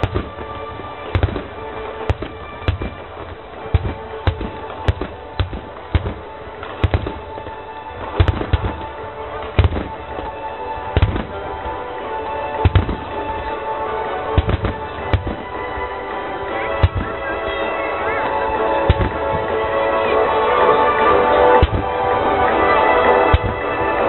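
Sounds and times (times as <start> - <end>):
fireworks bangs: 0.0 - 24.0
music playing: 0.0 - 24.0.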